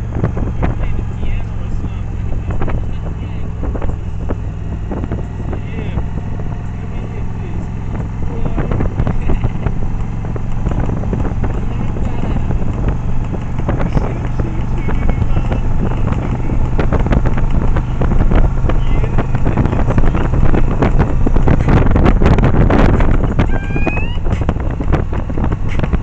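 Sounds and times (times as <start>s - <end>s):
motorcycle engine drone: 0.0s - 26.0s
wind buffeting on microphone: 0.0s - 26.0s.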